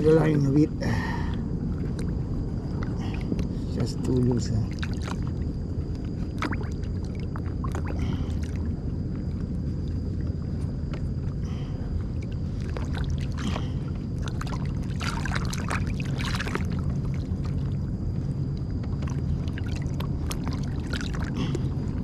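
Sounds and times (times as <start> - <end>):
steady low rumble: 0.0 - 22.0
water rushing along hull: 0.0 - 22.0.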